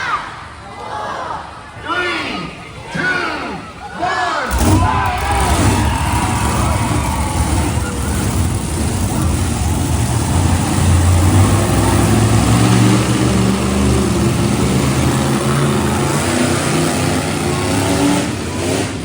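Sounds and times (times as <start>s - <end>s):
monster truck engines revving: 3.6s - 19.0s.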